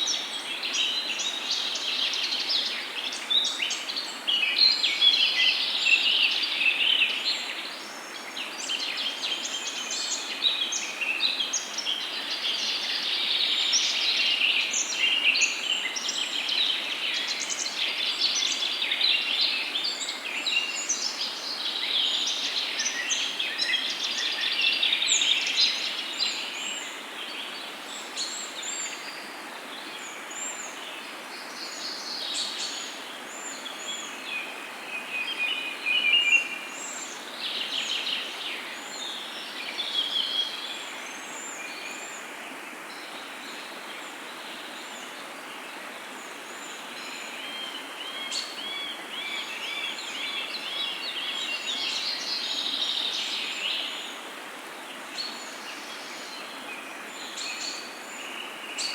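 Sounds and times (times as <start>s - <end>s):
steady background hiss: 0.0s - 58.9s.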